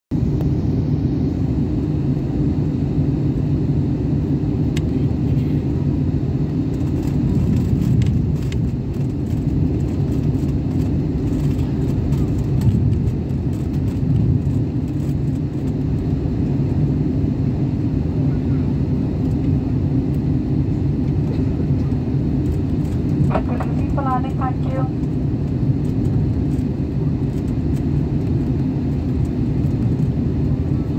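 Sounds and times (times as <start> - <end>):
jet cabin engine drone: 0.1 - 30.9.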